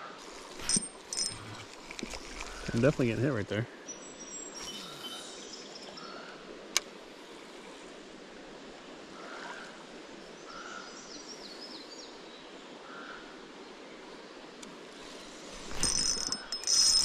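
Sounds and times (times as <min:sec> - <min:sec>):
shallow creek flowing: 0:00.1 - 0:11.4, 0:12.1 - 0:17.0.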